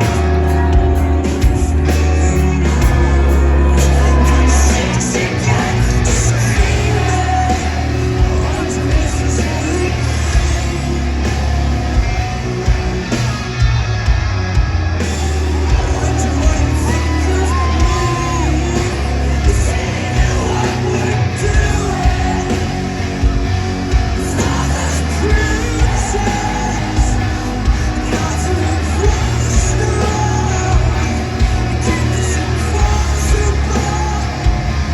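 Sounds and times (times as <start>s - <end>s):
person singing: 0.0s - 13.1s, 15.5s - 34.9s
crowd yelling: 0.0s - 34.9s
live rock band playing: 0.0s - 34.9s.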